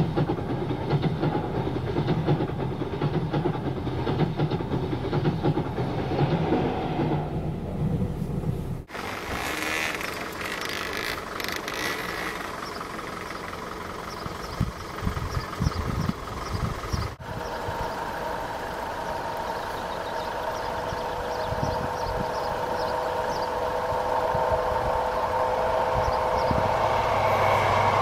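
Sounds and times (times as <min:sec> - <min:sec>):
diesel locomotive idling: 0:00.0 - 0:28.0.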